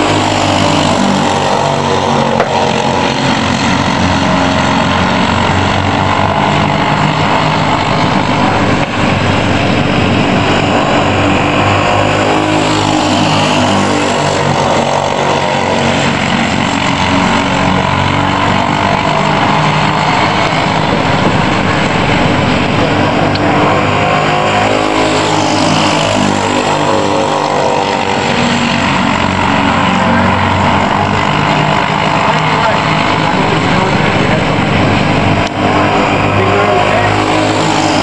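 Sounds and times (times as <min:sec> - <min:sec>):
kart engines racing: 0:00.0 - 0:38.0.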